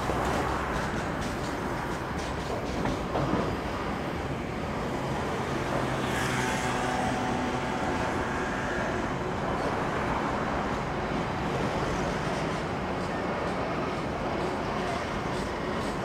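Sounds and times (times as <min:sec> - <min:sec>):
freight train rumble and rattle: 0:00.0 - 0:16.0.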